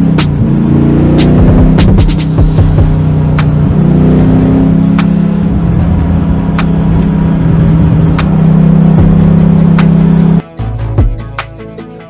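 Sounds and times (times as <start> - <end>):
car engine under load: 0.0 - 10.4.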